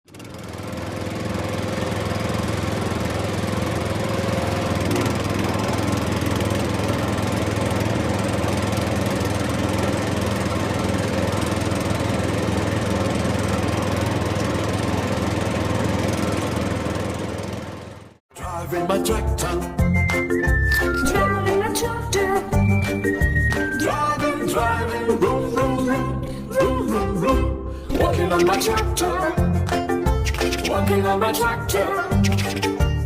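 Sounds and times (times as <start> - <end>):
tractor engine running: 0.1 - 18.2, 20.1 - 33.0.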